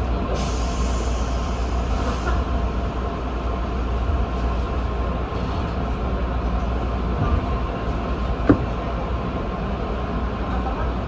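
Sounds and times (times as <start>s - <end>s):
train equipment hum: 0.0s - 11.0s.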